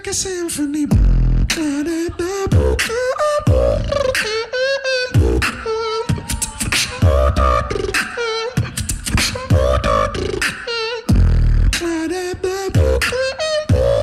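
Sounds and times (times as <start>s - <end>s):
beatboxing bass kicks: 0.1s - 4.5s, 5.2s - 14.0s
beatboxing clicks and hi-hats: 0.1s - 4.5s, 5.1s - 14.0s
hummed melody: 1.3s - 14.0s.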